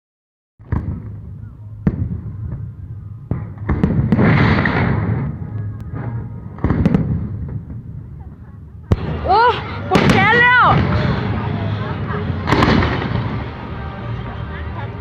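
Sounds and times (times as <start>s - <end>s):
fireworks bangs: 0.6s - 8.2s, 8.9s - 14.0s
fireworks crackling and fizzing: 0.6s - 14.3s.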